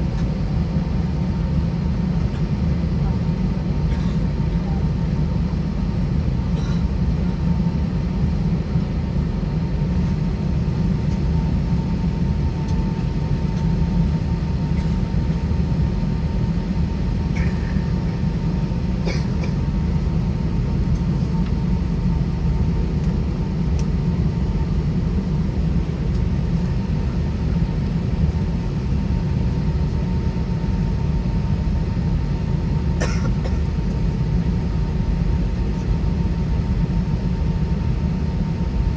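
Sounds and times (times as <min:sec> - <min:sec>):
airplane cabin rumble: 0:00.0 - 0:38.9
faint engine whine: 0:00.0 - 0:38.9.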